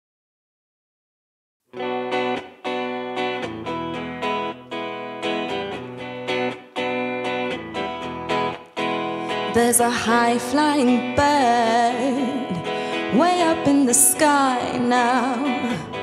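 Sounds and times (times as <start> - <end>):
electric guitar chords: 1.7 - 16.0.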